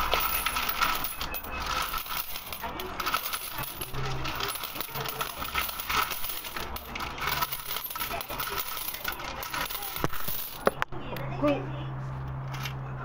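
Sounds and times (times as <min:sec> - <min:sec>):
coins clinking and jingling: 0:00.0 - 0:10.7.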